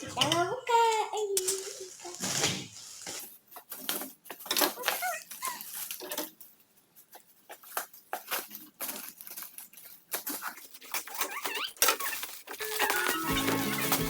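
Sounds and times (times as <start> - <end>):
packaging crinkling and ripping: 1.3 - 6.4, 7.6 - 14.0.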